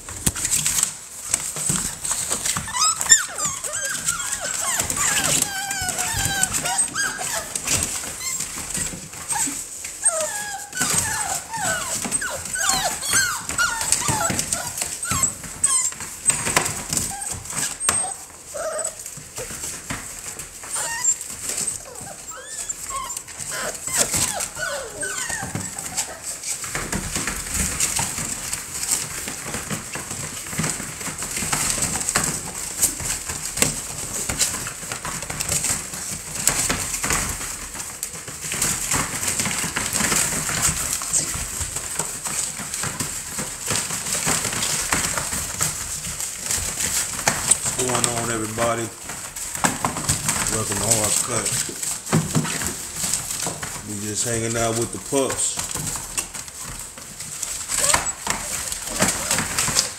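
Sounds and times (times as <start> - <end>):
paws scrabbling: 0.0 - 59.9
wood shavings rustling: 0.0 - 59.9
puppies whimpering: 1.6 - 29.8, 30.5 - 56.8, 57.4 - 59.9.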